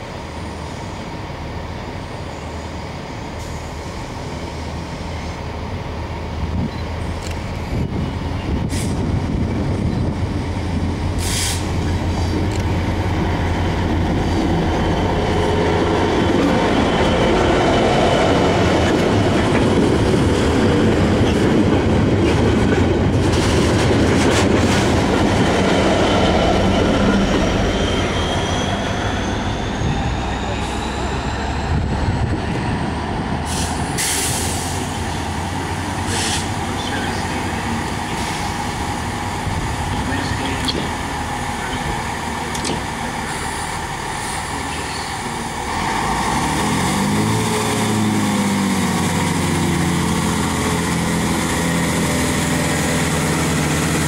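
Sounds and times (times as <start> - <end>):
diesel locomotive engine drone: 0.0 - 54.0
train wheels rumbling over rails: 0.0 - 54.0.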